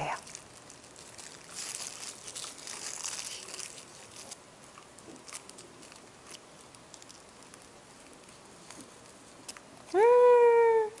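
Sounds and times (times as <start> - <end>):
parchment paper crinkling: 0.0 - 9.6.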